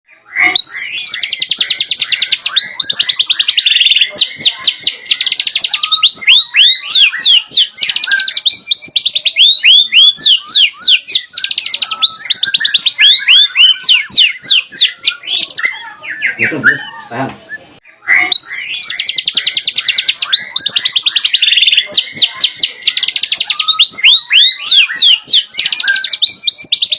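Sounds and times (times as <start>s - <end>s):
canary song: 0.0s - 26.9s
songbird singing trills and whistles: 0.1s - 26.9s.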